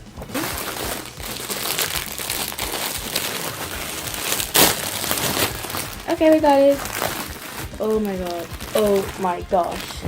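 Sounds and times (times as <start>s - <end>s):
packaging crinkling and rustling: 0.2s - 10.0s.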